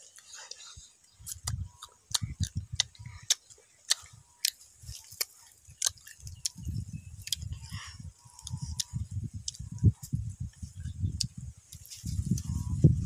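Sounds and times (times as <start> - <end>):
crunchy chewing of mango: 0.0 - 13.0.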